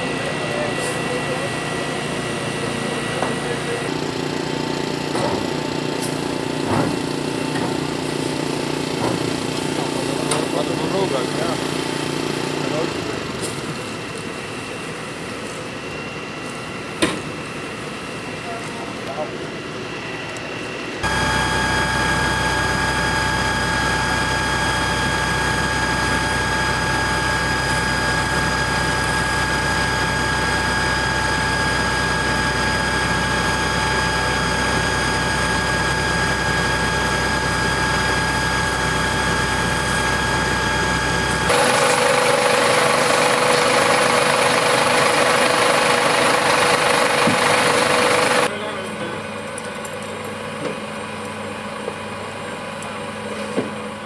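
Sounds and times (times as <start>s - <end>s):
fire engine pump droning: 0.0s - 19.5s, 20.1s - 54.0s.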